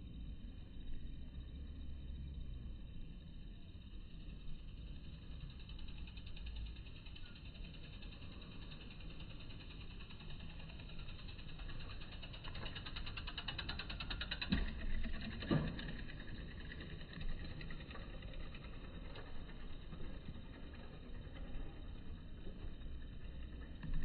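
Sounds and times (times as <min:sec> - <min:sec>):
low street rumble: 0:00.0 - 0:24.0.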